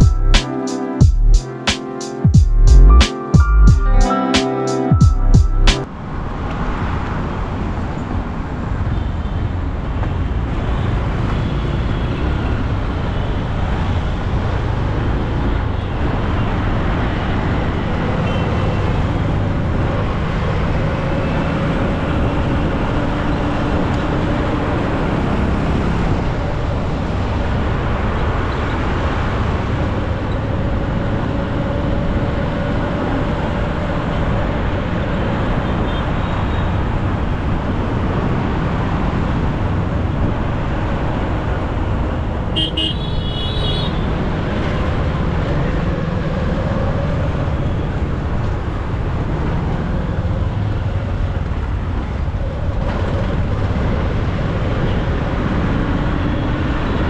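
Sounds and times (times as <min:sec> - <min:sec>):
vehicles passing: 0:00.0 - 0:57.0
motorcycle engine and road noise: 0:05.8 - 0:57.0.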